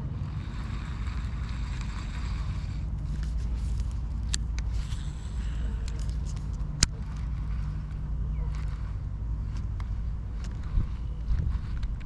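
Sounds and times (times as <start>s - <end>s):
fishing reel cranking: 0.0s - 12.0s
wind rumble on microphone: 0.0s - 12.0s.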